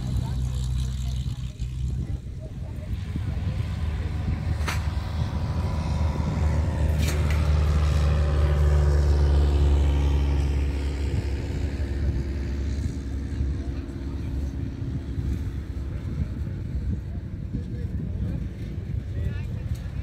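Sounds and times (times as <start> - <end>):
propeller plane flying past: 0.0 - 20.0.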